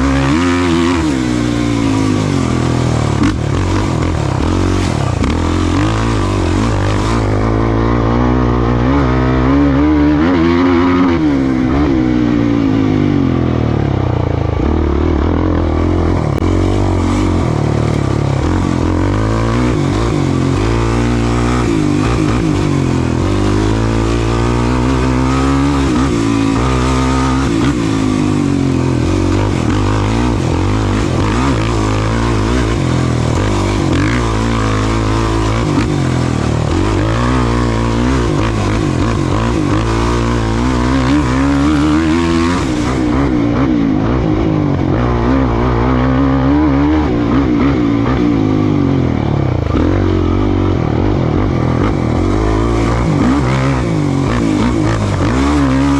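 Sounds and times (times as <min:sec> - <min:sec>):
race vehicle engine revving: 0:00.0 - 0:55.9.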